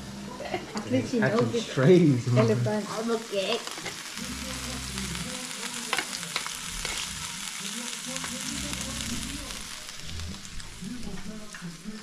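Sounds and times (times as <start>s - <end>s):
meat sizzling on a grill: 0.4s - 12.0s.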